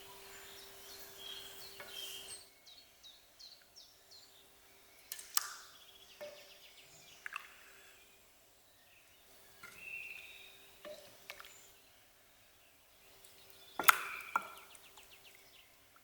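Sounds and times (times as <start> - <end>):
faint bird chirps: 0.0 - 15.9
faint steady hum: 0.0 - 16.0.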